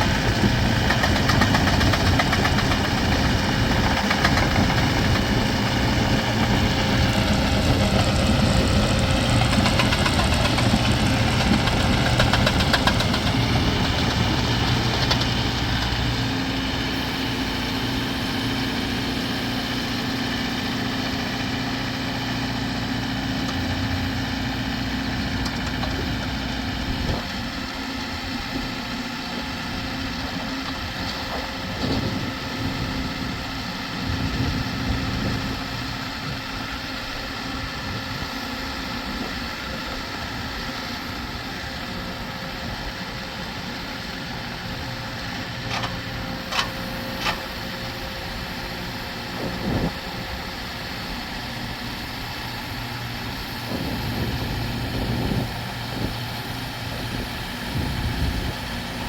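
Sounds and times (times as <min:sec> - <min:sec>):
pile driver engine idling: 0:00.0 - 0:59.0.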